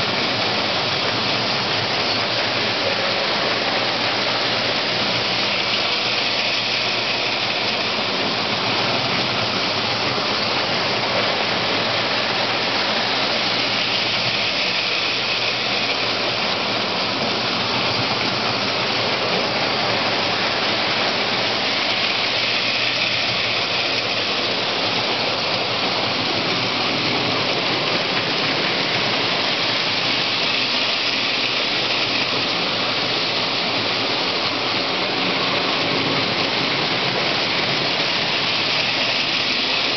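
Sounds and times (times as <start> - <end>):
toy train wheels rattling on rails: 0.0 - 39.9.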